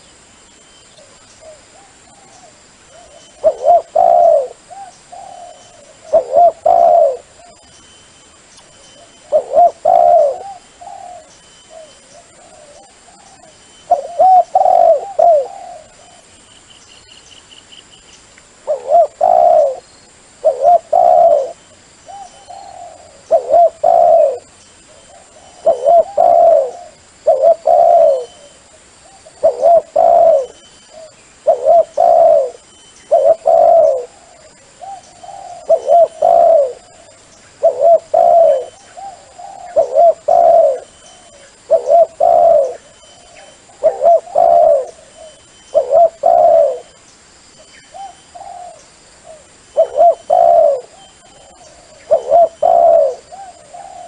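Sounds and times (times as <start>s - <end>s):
dove cooing: 1.0s - 7.7s, 9.0s - 16.4s, 18.6s - 47.0s, 47.9s - 54.0s.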